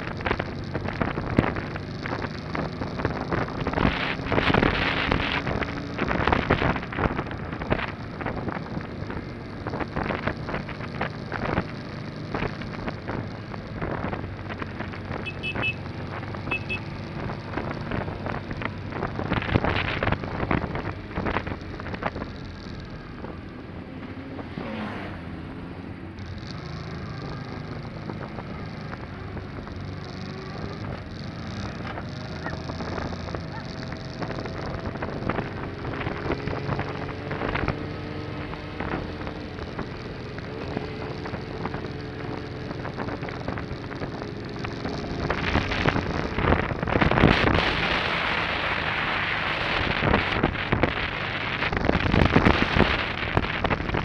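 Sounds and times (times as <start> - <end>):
wind noise on microphone: 0.0 - 24.8, 26.0 - 54.0
motorcycle engine running: 0.0 - 54.0.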